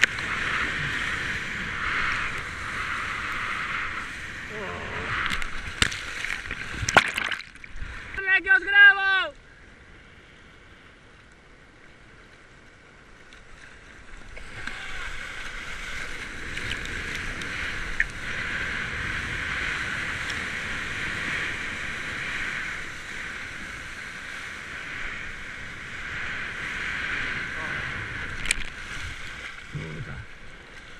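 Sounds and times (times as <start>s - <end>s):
water rushing past surfboard: 0.0s - 8.2s, 13.4s - 30.9s
water lapping: 0.0s - 30.9s.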